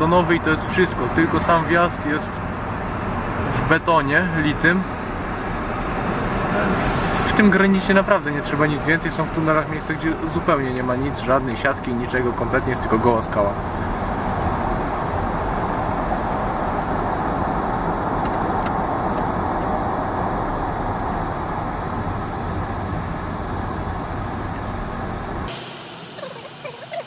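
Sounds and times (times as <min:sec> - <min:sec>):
car tyre and engine noise: 0:00.0 - 0:26.7.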